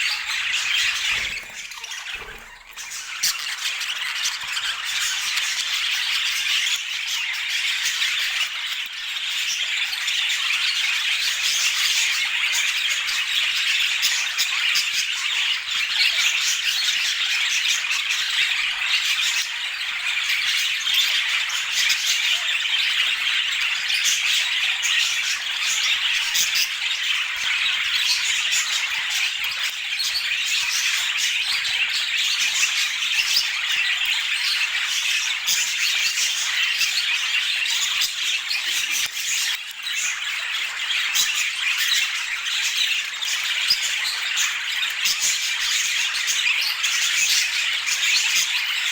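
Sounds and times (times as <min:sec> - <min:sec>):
budgerigars chattering and squawking: 0:00.0 - 0:48.9.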